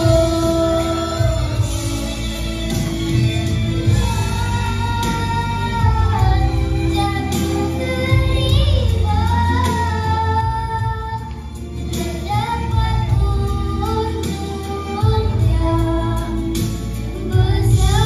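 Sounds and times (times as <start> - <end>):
recorded backing track: 0.0 - 18.0.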